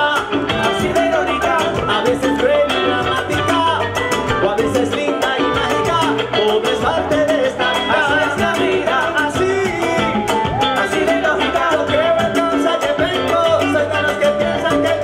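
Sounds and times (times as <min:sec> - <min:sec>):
man singing: 0:00.0 - 0:15.0
salsa band playing: 0:00.0 - 0:15.0.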